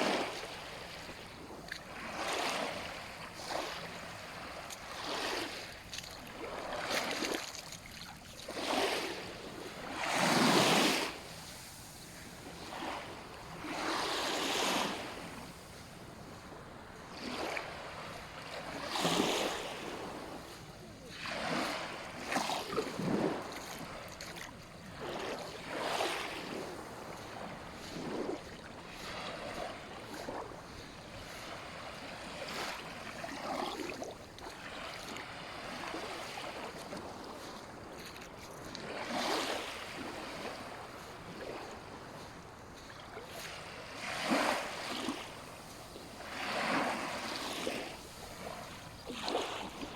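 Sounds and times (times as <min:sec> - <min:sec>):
waves washing onto sandy beach: 0:00.0 - 0:49.9.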